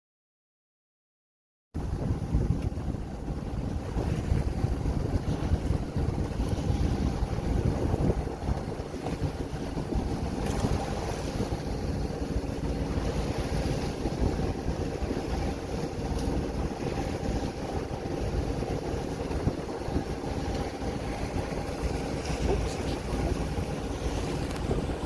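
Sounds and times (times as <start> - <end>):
boat engine running: 1.8 - 25.0
wind buffeting microphone: 1.8 - 25.0.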